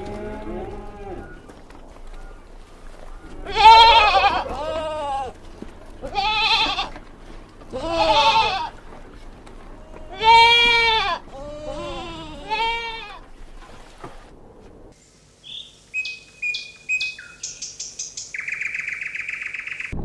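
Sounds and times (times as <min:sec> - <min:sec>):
farm animal calling: 0:00.0 - 0:13.7, 0:15.4 - 0:20.0.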